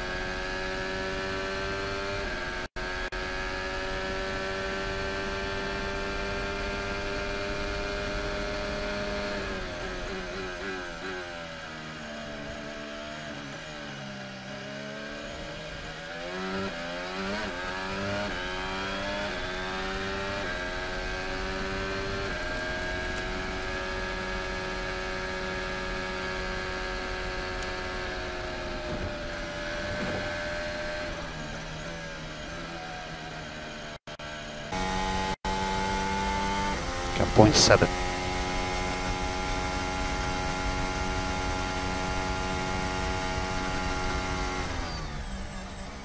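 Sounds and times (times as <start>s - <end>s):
race car engine accelerating: 0.0s - 46.0s.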